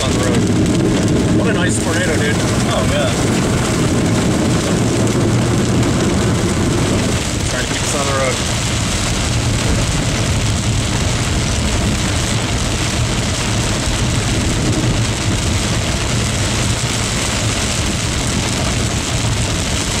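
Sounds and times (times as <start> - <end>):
car engine and road rumble: 0.0 - 20.0
rain and wind on car: 0.0 - 20.0.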